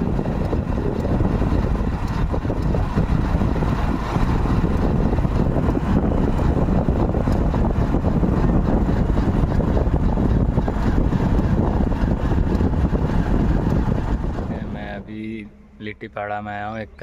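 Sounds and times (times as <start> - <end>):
wind buffeting microphone: 0.0 - 16.0
motorcycle running: 0.0 - 17.0
road noise: 0.0 - 17.0.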